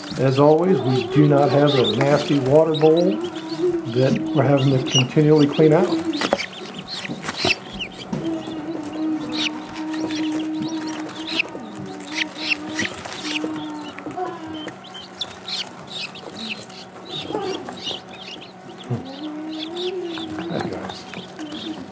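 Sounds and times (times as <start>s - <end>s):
chicks peeping: 0.0s - 21.9s
steady low hum: 0.0s - 21.9s.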